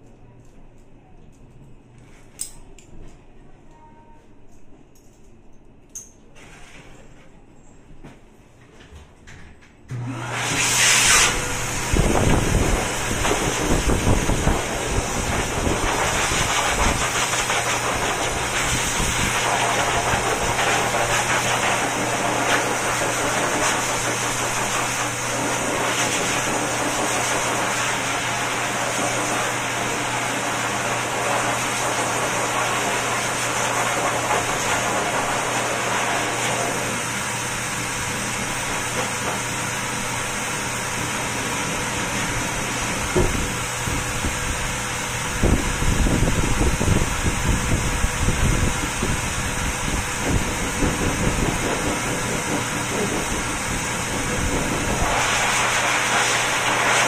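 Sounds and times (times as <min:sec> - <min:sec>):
blow dryer motor hum: 0:09.9 - 0:57.0.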